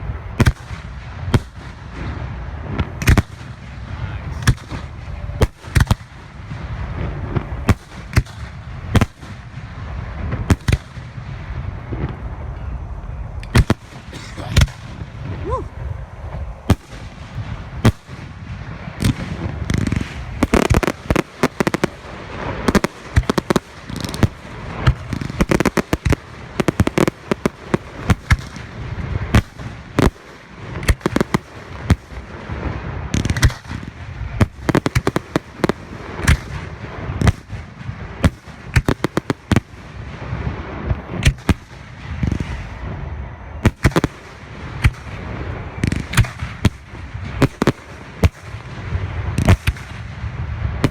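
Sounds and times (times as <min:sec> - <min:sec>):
fireworks bursts and booms: 0:00.0 - 0:50.9
fireworks crackling: 0:00.0 - 0:50.9.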